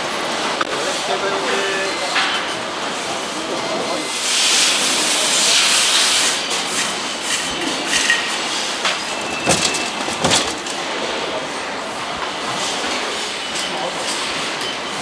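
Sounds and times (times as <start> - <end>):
machinery noise: 0.0 - 15.0.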